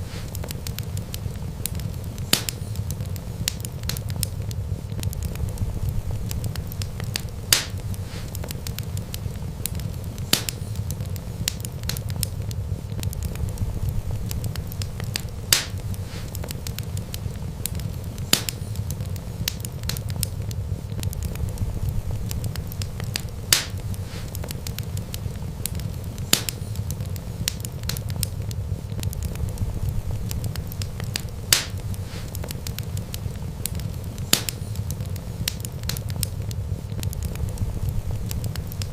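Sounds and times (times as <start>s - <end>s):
loud pops from fire: 0.0s - 38.9s
wood fire crackling: 0.0s - 38.9s.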